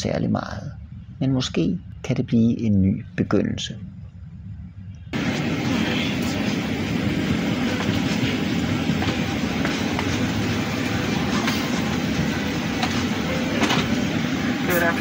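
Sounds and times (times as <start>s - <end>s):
low rumbling cabin noise: 0.0s - 15.0s.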